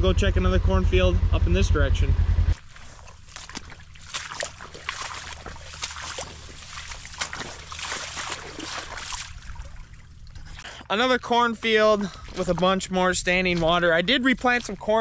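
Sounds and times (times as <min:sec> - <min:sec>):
water trickling and splashing: 0:02.6 - 0:15.0.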